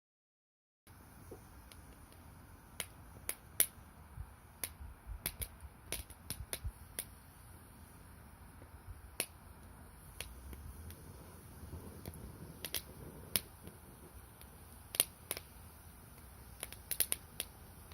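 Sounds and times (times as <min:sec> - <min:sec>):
low steady rumble: 0:00.9 - 0:17.9
firewood crackling and popping: 0:01.1 - 0:17.9.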